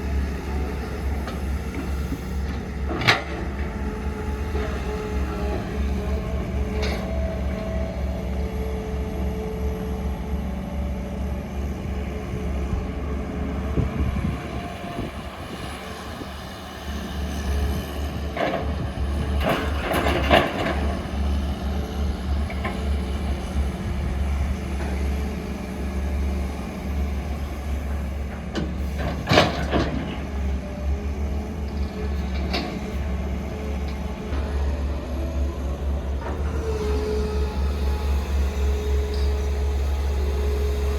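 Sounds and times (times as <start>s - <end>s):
heavy diesel engine rumbling: 0.0s - 40.9s.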